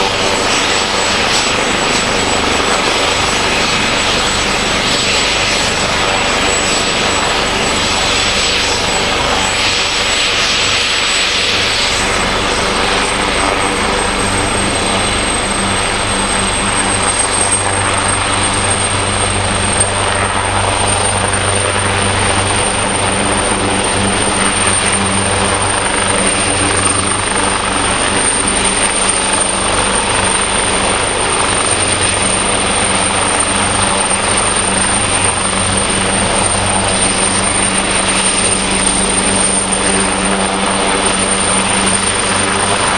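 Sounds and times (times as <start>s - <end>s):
helicopter running with high whine: 0.0s - 42.9s.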